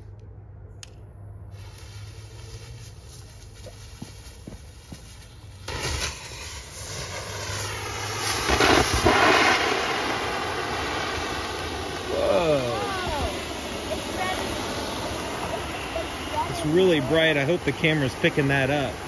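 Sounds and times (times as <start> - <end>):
low hum: 0.0 - 19.0
firework fountain hissing: 1.5 - 19.0.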